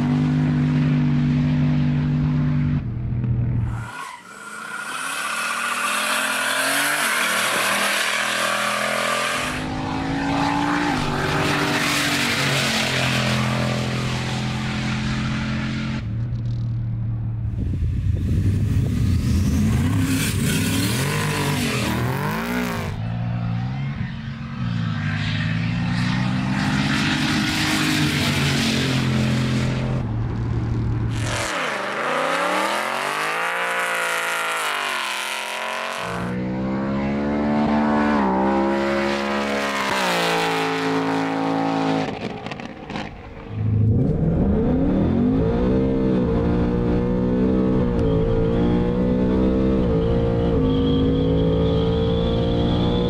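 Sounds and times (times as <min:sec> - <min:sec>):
cars accelerating hard: 0:03.7 - 0:16.0, 0:18.6 - 0:30.1, 0:31.0 - 0:53.0.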